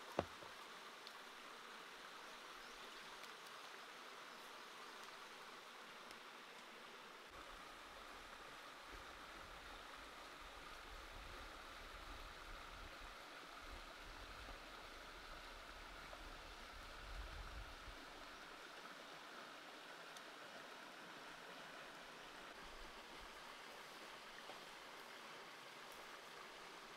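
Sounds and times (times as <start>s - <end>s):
faint outdoor hiss: 0.0s - 26.9s.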